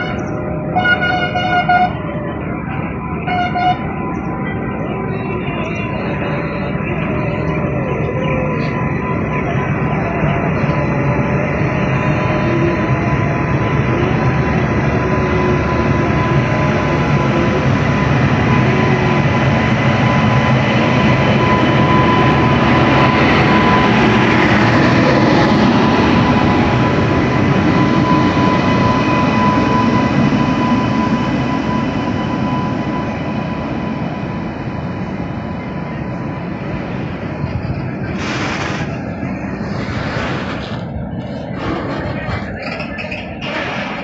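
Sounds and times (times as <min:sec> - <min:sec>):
steady high tone: 0:00.0 - 0:38.2
freight train wagons rumbling: 0:00.0 - 0:44.0.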